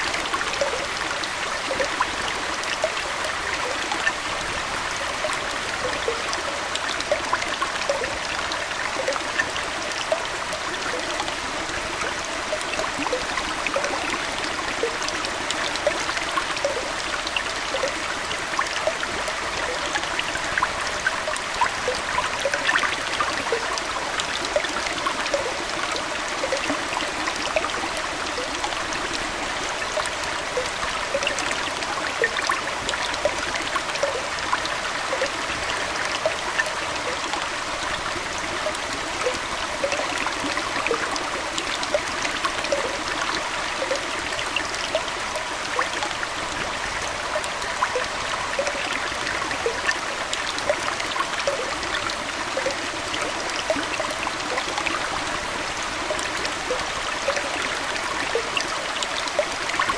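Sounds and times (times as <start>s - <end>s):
aquarium water trickling and bubbling: 0.0s - 59.9s.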